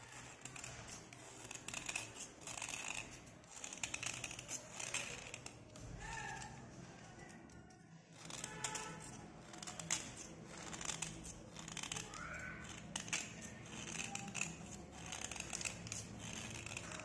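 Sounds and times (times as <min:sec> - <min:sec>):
knife blade scraping pencil: 0:00.0 - 0:17.0.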